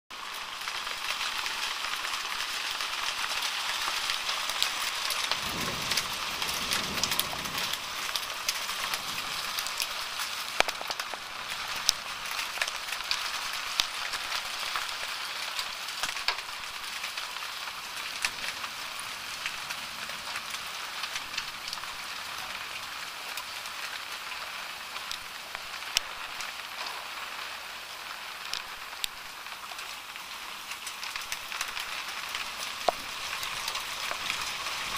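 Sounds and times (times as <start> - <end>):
hailstones clicking on hard surfaces: 0.1 - 34.9
heavy rain downpour: 0.1 - 34.9.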